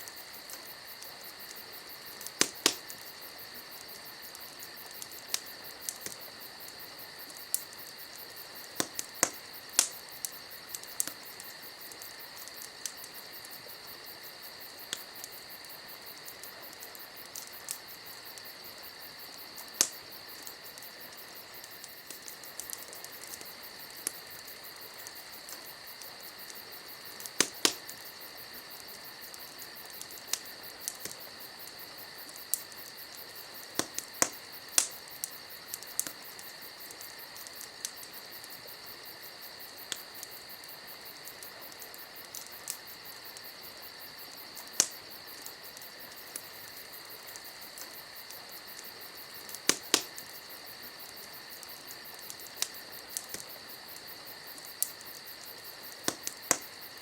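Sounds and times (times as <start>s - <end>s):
campfire crackling with pops: 0.0s - 57.0s.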